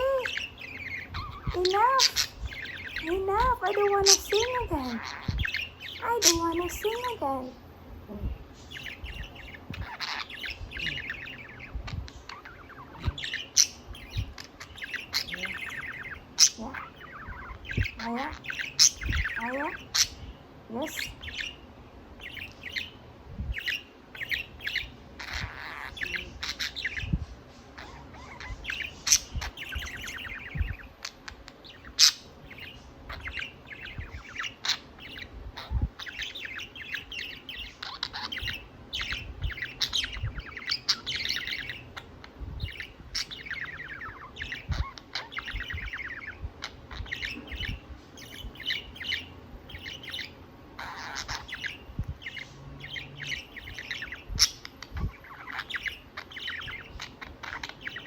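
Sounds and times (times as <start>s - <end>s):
budgerigar warbling: 0.0s - 7.2s, 8.7s - 21.6s, 23.6s - 27.2s, 27.8s - 58.0s.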